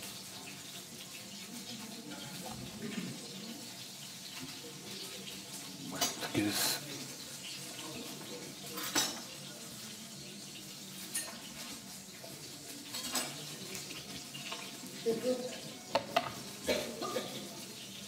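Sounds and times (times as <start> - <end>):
sizzling hiss: 0.0 - 16.6
utensils and plates clinking: 0.1 - 9.7, 10.8 - 18.0.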